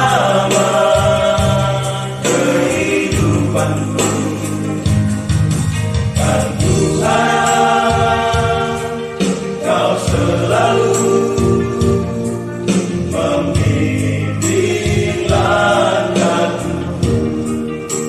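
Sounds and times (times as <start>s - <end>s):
accompaniment with bass and beat: 0.0s - 18.0s
vocal group singing in harmony: 0.0s - 18.0s.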